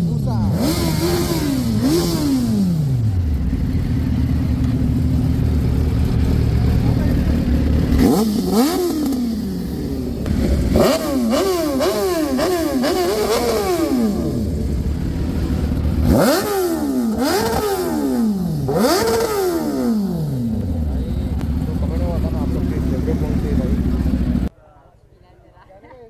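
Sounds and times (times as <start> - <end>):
motorcycle engine revving: 0.0 - 24.5.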